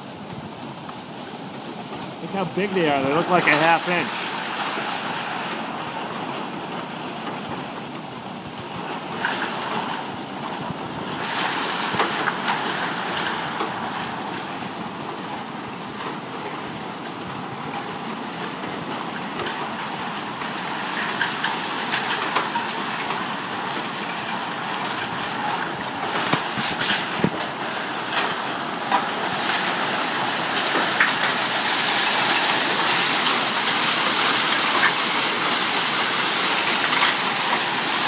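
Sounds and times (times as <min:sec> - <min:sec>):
rain downpour hissing: 0:00.0 - 0:38.0
hailstones ticking on grass and concrete: 0:01.6 - 0:07.7, 0:08.6 - 0:38.0.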